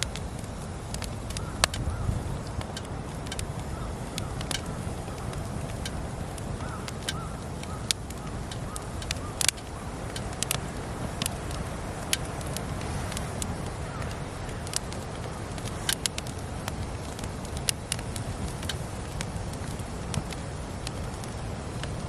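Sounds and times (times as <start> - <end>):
campfire crackles and pops: 0.0 - 22.0
low hiss of flames: 0.0 - 22.0.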